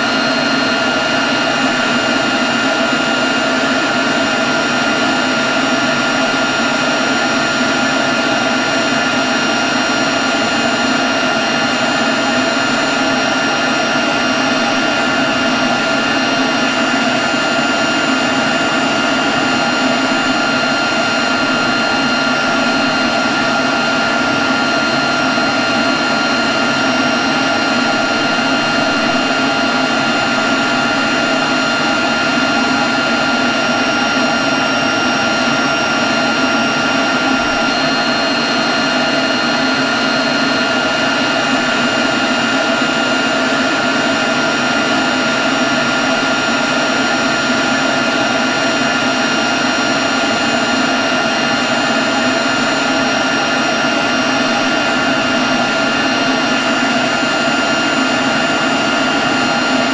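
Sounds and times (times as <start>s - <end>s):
leaf blower running: 0.0s - 59.9s.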